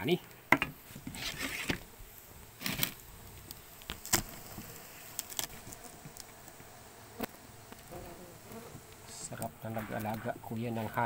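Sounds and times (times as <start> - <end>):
bees buzzing: 0.4 - 11.0.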